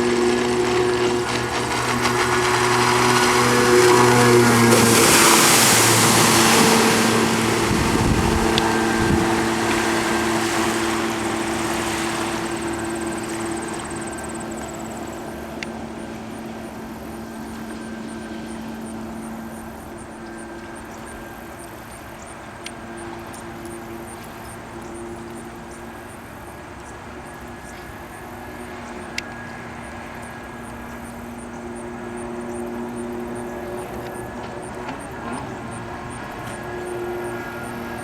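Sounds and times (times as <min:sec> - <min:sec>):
jet ski engine droning: 0:00.0 - 0:38.0
rush of wind and water: 0:00.0 - 0:38.0.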